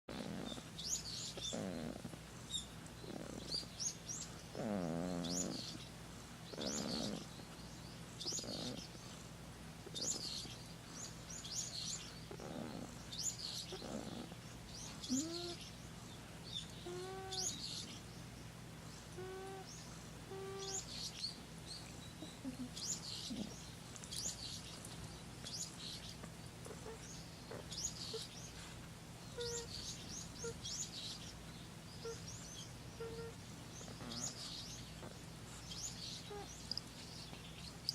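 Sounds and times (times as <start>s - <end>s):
birds chirping: 0.2s - 9.2s, 9.9s - 37.9s.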